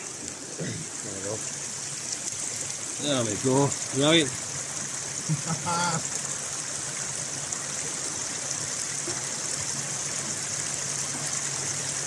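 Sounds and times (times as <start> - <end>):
river water running over stones: 0.0 - 12.0.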